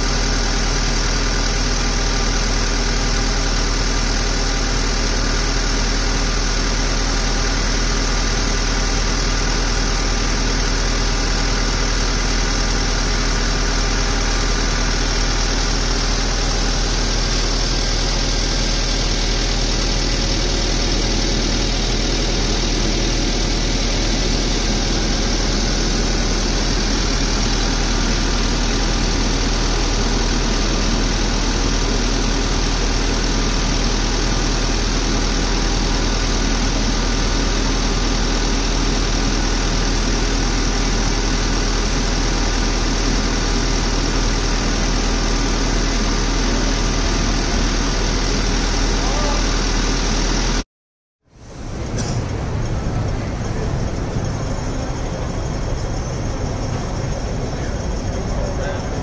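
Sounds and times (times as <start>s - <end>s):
truck engine idling: 0.0s - 50.6s, 51.3s - 59.0s.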